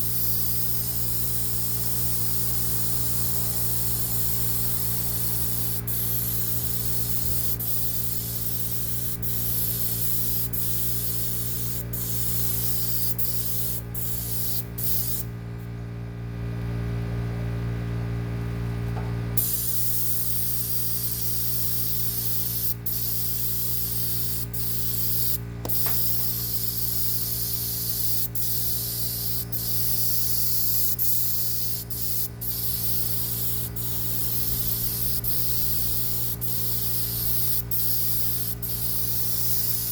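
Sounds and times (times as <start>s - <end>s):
spray gun hissing: 0.0s - 15.3s, 19.4s - 39.9s
mechanical hum: 0.0s - 39.9s.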